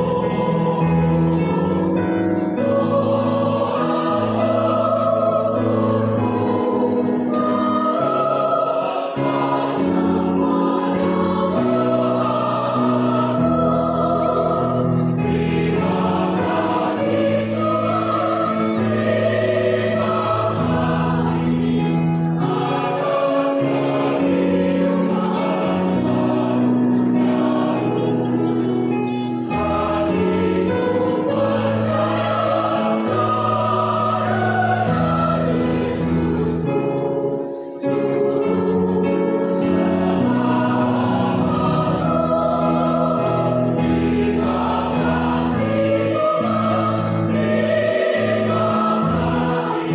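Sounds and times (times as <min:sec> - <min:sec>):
mixed choir singing in parts: 0:00.0 - 0:49.9.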